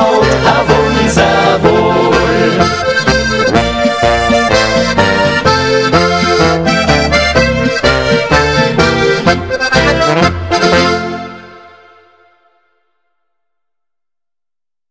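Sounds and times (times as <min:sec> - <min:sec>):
bass line: 0:00.0 - 0:12.0
button accordion: 0:00.0 - 0:12.4.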